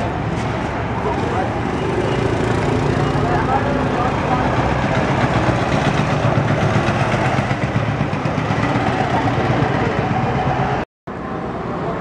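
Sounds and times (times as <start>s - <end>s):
vehicles passing close by: 0.0s - 12.0s.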